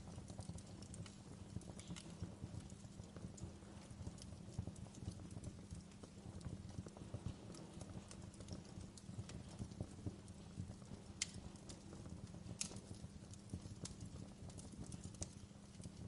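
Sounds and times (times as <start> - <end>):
burning wood crackling and popping: 0.0 - 16.0
campfire low rumble: 0.0 - 16.0.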